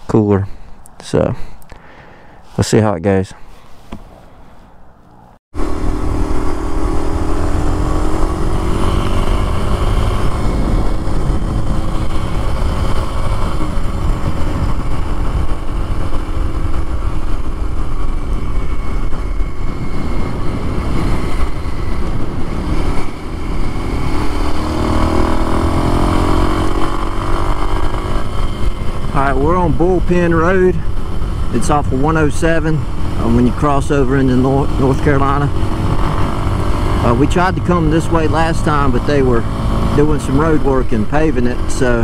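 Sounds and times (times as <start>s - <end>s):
wind rumble: 4.0s - 42.0s
motorcycle engine running: 5.6s - 42.0s.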